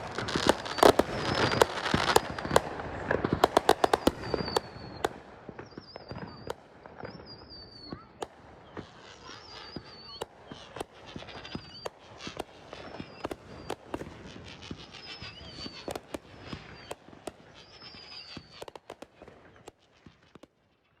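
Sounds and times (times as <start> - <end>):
fireworks whistles: 0.0 - 20.5
fireworks bangs and crackles: 0.0 - 21.0.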